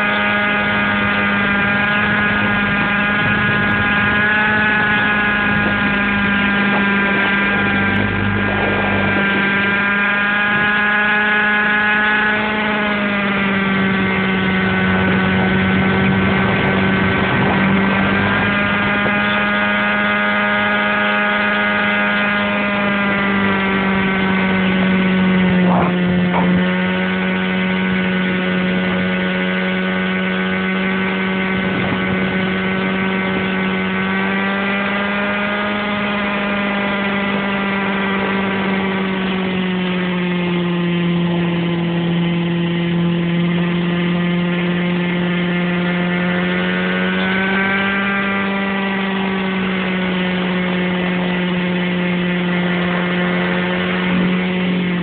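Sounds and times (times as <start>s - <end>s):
model helicopter drone: 0.0s - 55.0s.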